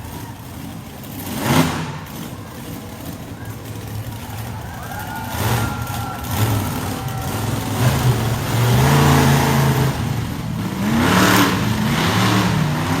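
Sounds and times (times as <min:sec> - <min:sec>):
small truck engine revving: 0:00.0 - 0:13.0.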